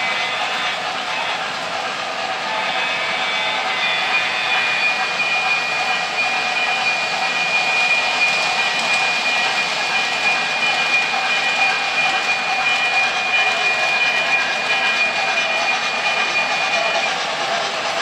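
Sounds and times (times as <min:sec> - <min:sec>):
toy train rumbling on track: 0:00.0 - 0:18.0.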